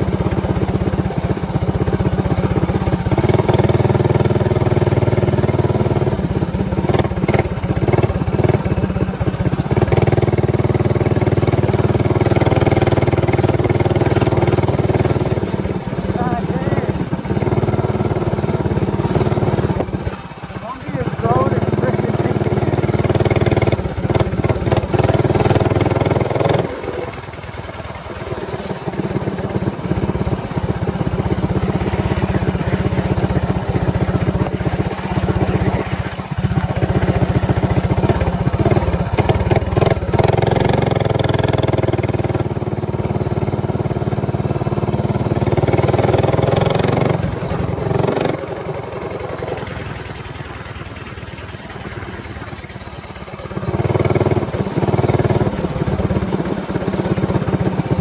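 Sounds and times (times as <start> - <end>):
minibike engine revving: 0.0 - 58.0.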